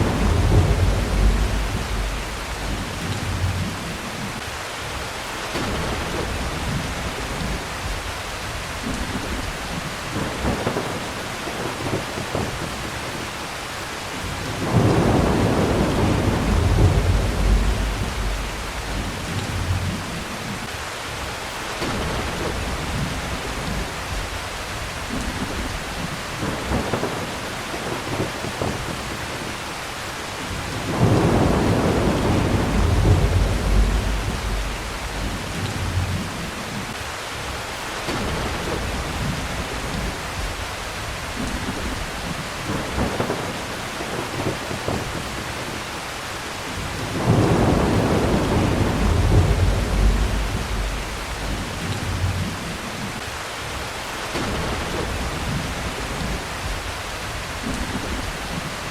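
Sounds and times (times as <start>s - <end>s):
thunder rumbling: 0.0s - 13.4s, 14.2s - 20.7s, 21.8s - 29.6s, 30.5s - 37.0s, 38.1s - 53.2s, 53.8s - 58.9s
heavy rain: 0.0s - 58.9s.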